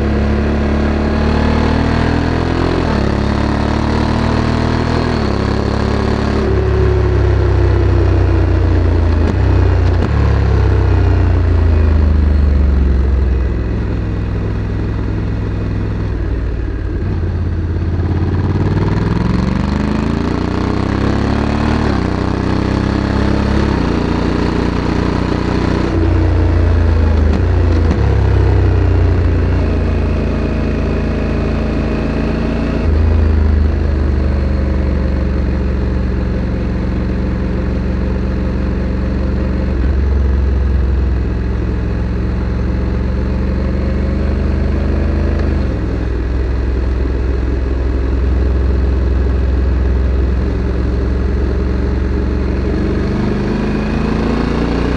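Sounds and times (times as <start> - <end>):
motorcycle engine while riding: 0.0 - 54.9.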